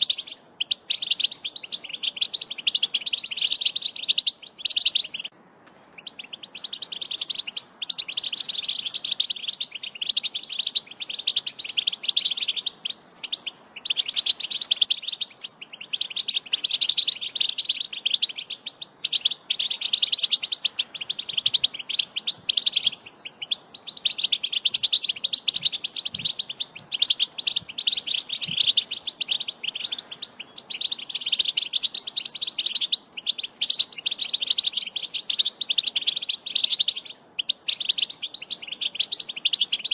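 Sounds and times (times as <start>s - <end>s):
finch twittering and trilling: 0.0s - 39.9s.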